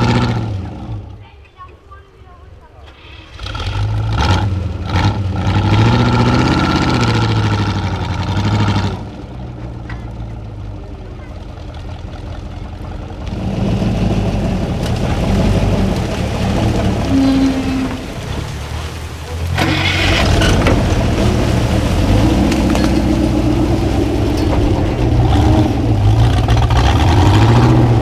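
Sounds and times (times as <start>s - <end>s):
diesel truck engine revving: 0.0s - 1.2s, 2.9s - 28.0s.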